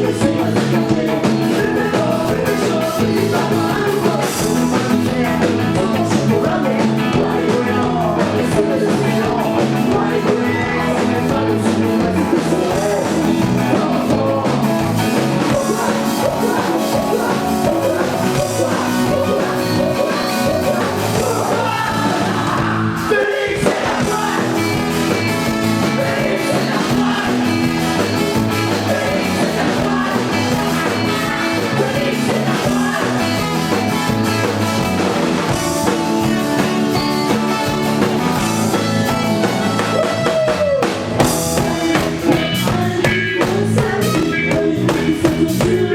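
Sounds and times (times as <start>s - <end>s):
person singing: 0.0s - 34.8s, 35.5s - 45.9s
ska-punk band playing: 0.0s - 45.9s.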